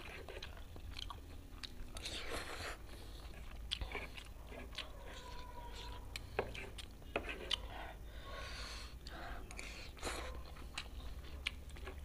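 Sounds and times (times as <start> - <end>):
person chewing noodles: 0.0 - 12.0.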